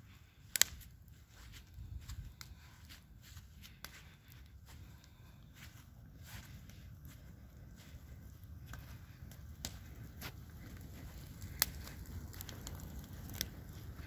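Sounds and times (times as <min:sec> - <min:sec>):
bonfire crackling: 0:00.0 - 0:14.0
sharp pops of burning wood: 0:00.2 - 0:05.2, 0:06.5 - 0:14.0.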